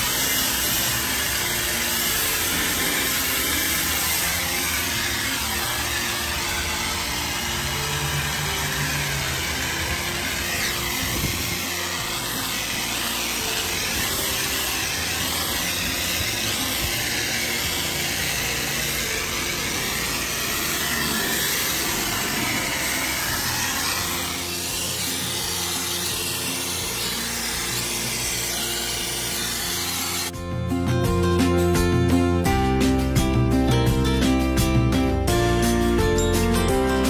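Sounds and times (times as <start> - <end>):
pressure washer spraying: 0.0 - 30.4.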